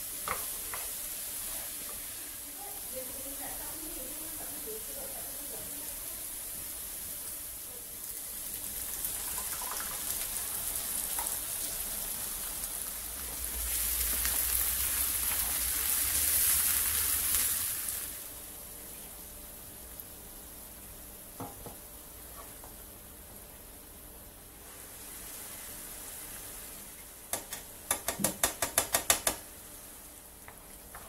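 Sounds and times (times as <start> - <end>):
meat and onions sizzling in wok: 0.0 - 31.0.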